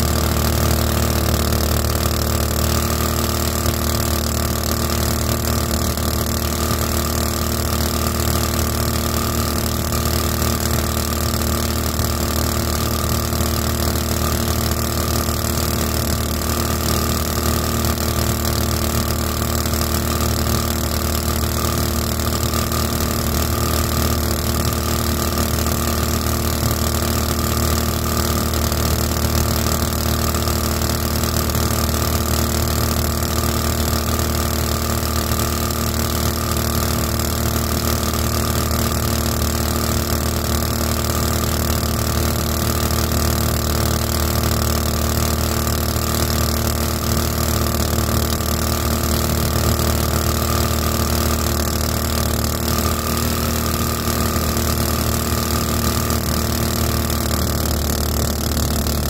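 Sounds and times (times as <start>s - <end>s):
small boat engine running steadily: 0.0s - 59.0s.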